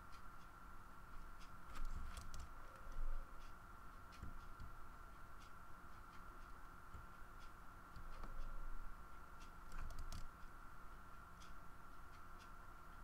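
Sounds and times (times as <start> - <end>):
high electrical hum: 0.0 - 13.0.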